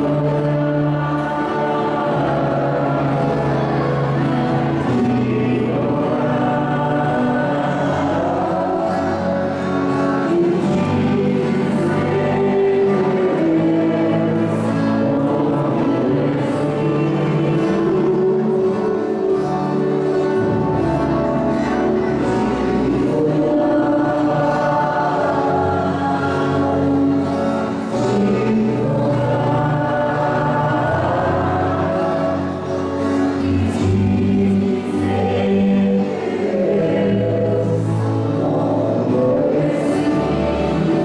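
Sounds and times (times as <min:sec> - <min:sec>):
choir singing a hymn: 0:00.0 - 0:41.0.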